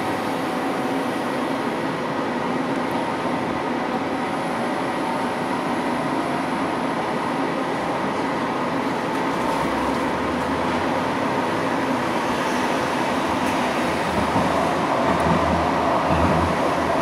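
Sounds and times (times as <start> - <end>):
light-rail car running rumble: 0.0 - 17.0.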